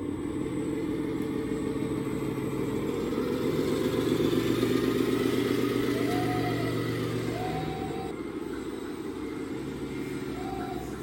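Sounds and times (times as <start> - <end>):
toy truck engine rumble: 0.0 - 11.0.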